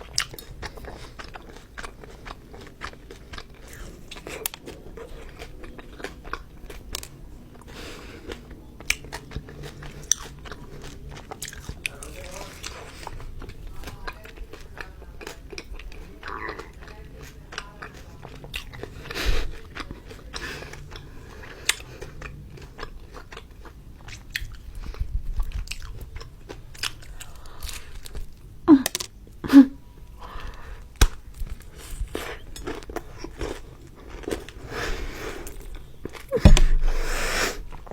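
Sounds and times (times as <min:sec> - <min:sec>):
crunchy biting and chewing: 0:00.0 - 0:29.4, 0:30.2 - 0:37.9.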